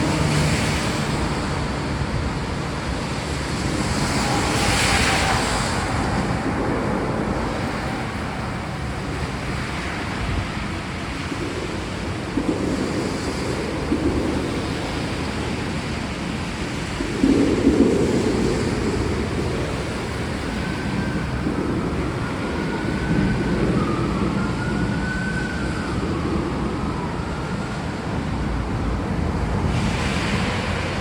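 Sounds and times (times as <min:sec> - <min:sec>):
low rumbles: 0:00.0 - 0:31.0
steady rain falling: 0:00.0 - 0:31.0.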